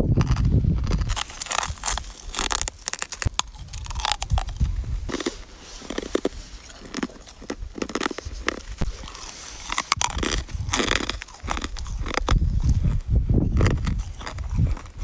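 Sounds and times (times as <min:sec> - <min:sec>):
chewing crunchy ice: 0:00.0 - 0:15.0.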